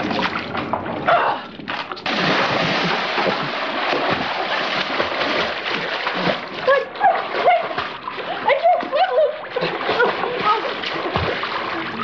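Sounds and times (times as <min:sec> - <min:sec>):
pool water splashing and churning: 0:00.0 - 0:12.0.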